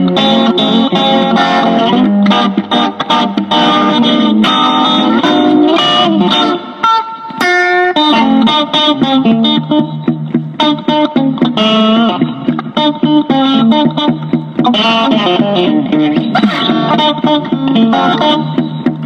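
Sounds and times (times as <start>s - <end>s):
plucked guitar fast run: 0.0s - 19.0s.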